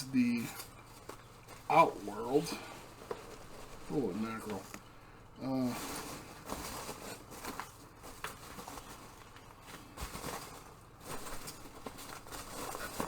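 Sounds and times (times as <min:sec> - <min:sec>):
packing foam rustling: 0:00.0 - 0:13.0.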